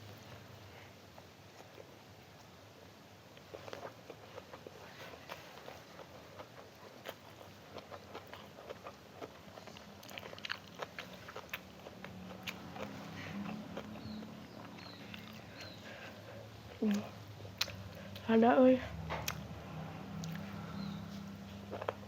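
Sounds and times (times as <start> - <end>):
person chewing food: 3.3 - 18.3, 19.1 - 22.0.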